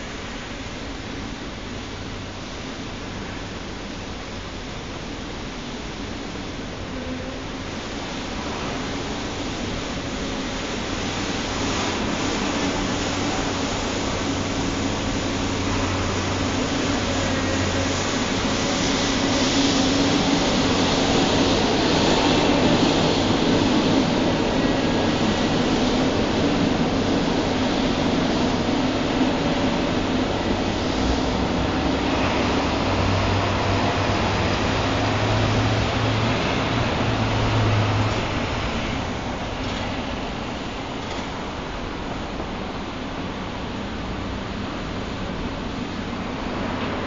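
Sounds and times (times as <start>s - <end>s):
train rumbling on elevated railway: 0.0s - 47.0s.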